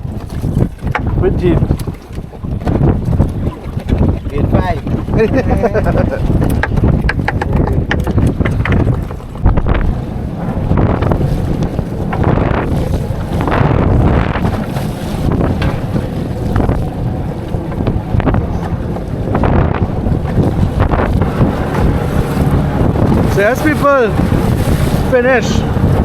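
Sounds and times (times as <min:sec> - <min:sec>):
water splashing against boat hull: 0:00.0 - 0:26.0
wind buffeting microphone: 0:00.0 - 0:26.0.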